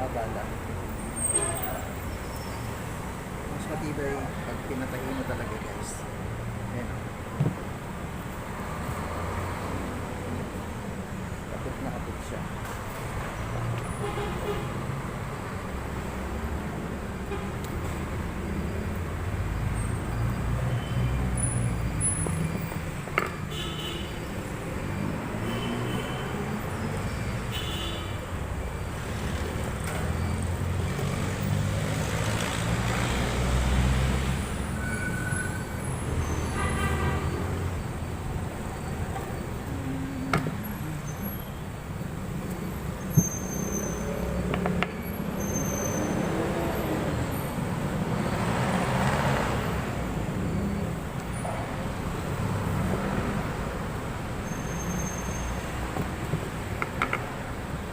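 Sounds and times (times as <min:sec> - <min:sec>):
road traffic rumble: 0:00.0 - 0:57.9.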